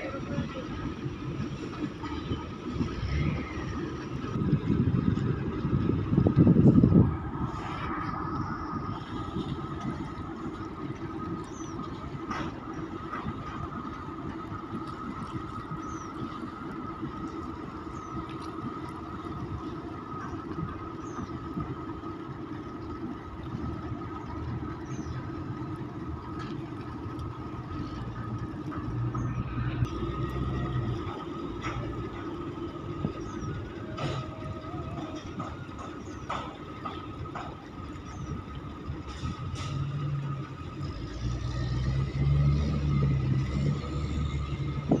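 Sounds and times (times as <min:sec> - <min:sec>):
ship engines droning: 0:00.0 - 0:45.0.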